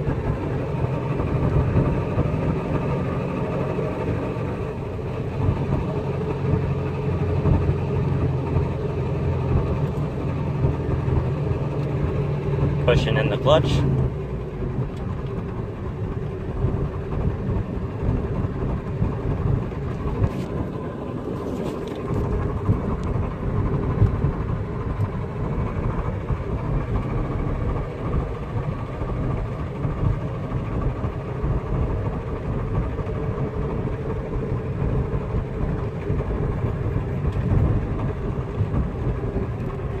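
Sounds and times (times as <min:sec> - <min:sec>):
road noise: 0:00.0 - 0:40.0
wheel hum: 0:00.0 - 0:40.0.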